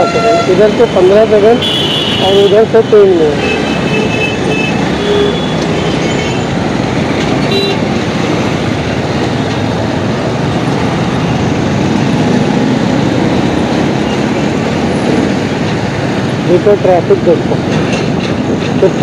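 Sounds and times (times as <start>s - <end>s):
wind noise: 3.4s - 19.0s.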